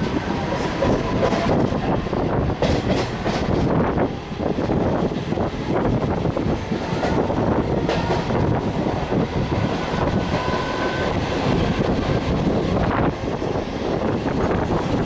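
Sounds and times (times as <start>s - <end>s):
train wheels rattling on track: 0.0s - 15.0s.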